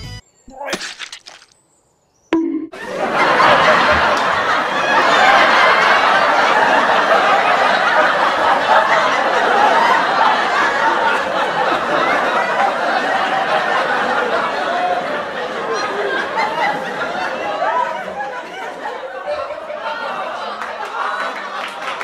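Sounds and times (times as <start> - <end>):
many voices laughing: 2.8 - 22.0.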